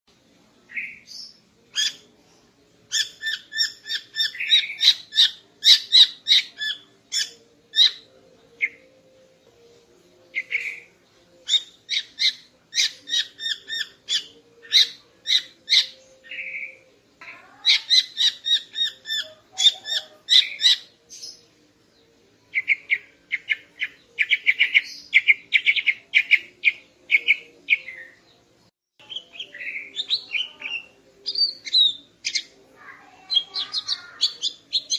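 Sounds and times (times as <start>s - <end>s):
bird chirping: 0.4s - 34.9s.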